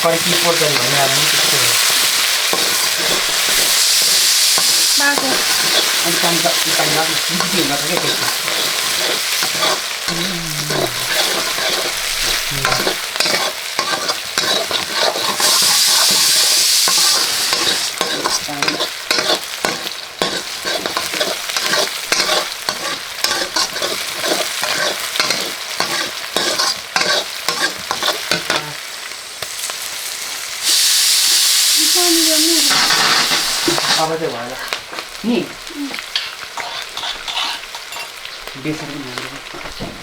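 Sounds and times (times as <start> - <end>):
food sizzling in a pan: 0.0 - 40.0
quick scraping strokes in pan: 0.2 - 10.0, 10.7 - 29.7, 32.4 - 34.8, 36.3 - 38.0.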